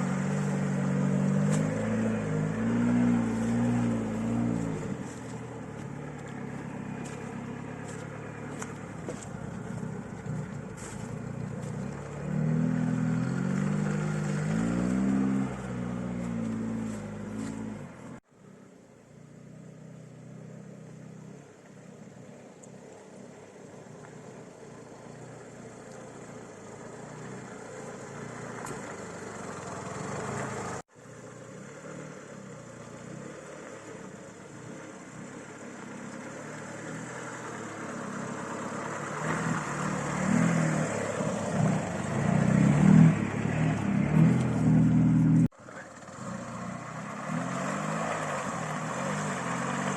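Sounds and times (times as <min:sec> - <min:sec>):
car engine revving: 0:00.0 - 0:18.2, 0:23.7 - 0:49.9.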